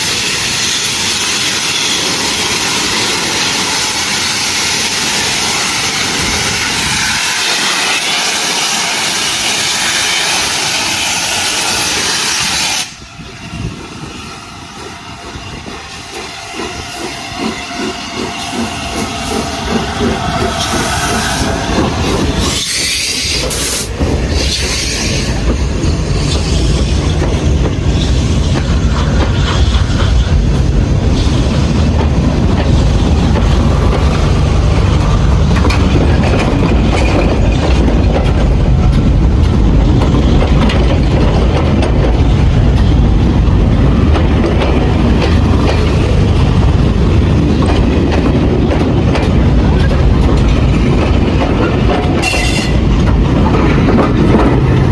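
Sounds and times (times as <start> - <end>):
train rumble: 0.0 - 54.9
train wheels clattering: 0.0 - 54.9.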